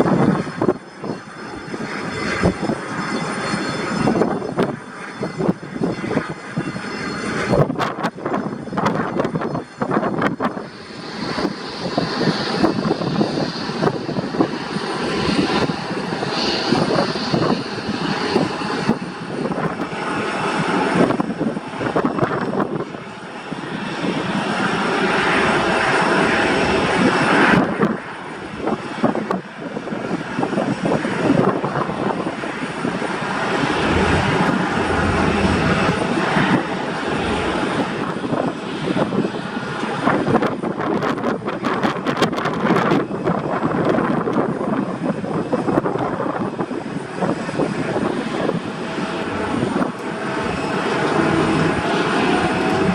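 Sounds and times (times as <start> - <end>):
airliner engines roaring: 0.0 - 52.9.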